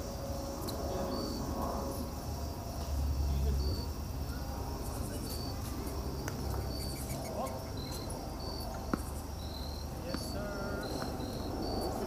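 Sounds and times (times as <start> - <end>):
crickets chirping: 0.0 - 12.0
low outdoor rumble: 0.0 - 12.0.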